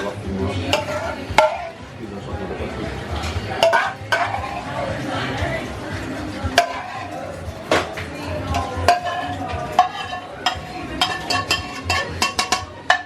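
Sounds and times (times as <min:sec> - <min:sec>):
metal utensils and dishes clinking: 0:00.0 - 0:01.8, 0:03.0 - 0:13.0.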